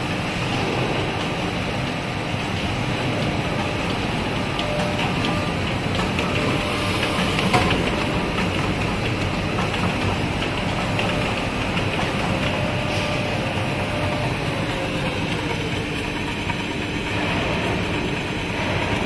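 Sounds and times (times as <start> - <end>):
machine mechanical whir: 0.0 - 19.0.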